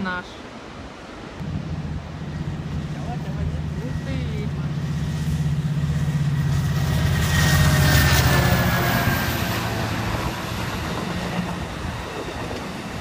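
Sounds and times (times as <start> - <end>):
diesel train engine rumble: 1.4 - 13.0.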